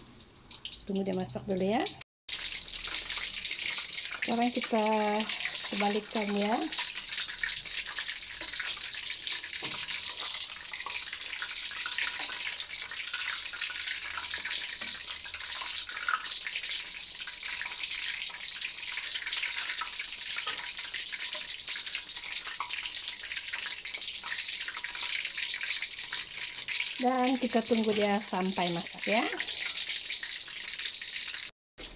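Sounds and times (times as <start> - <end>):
oil sizzling in deep frying: 0.0 - 31.9.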